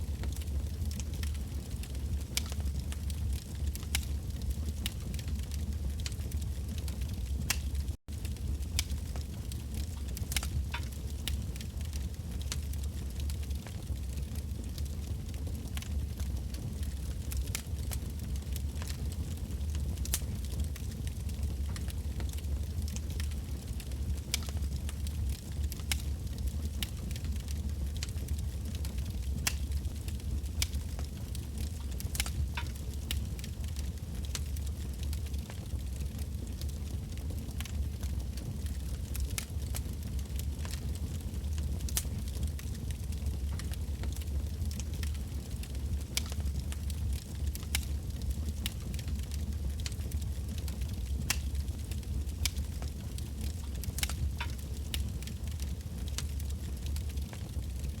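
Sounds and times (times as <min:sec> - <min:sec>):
campfire crackling and popping: 0:00.0 - 0:58.0
low rumble of flames: 0:00.0 - 0:58.0.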